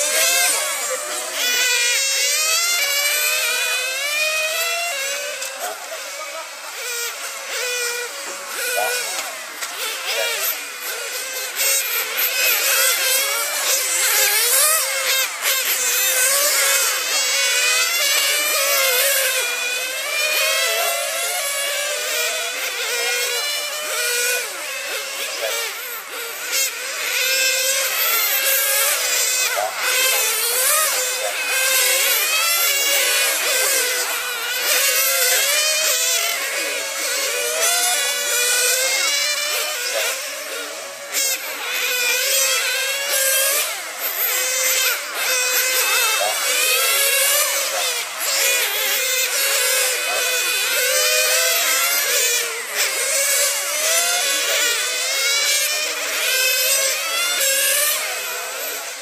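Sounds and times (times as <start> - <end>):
rc car motors whining: 0.0 - 59.0.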